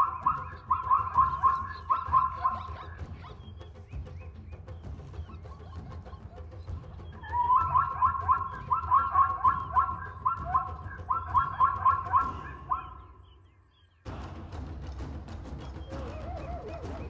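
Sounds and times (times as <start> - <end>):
zebra barking yelps: 0.0 - 14.0, 15.7 - 17.0.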